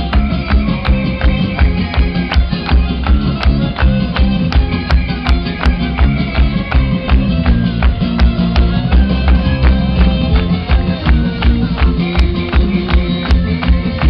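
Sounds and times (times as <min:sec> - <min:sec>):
guitars: 0:00.0 - 0:14.0
heavy bass line: 0:00.0 - 0:14.0
violin: 0:00.0 - 0:14.0.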